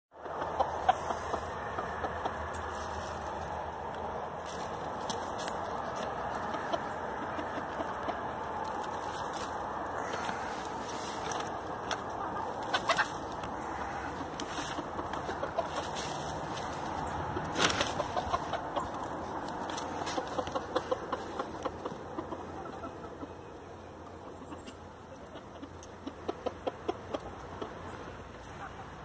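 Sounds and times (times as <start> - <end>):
beaks pecking at grass: 0.1 - 28.5
chickens clucking softly: 0.1 - 29.0.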